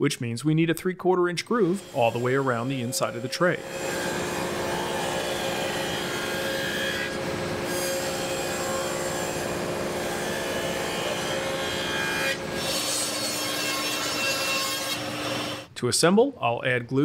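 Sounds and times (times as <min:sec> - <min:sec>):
power tool cutting wood: 0:01.6 - 0:15.7.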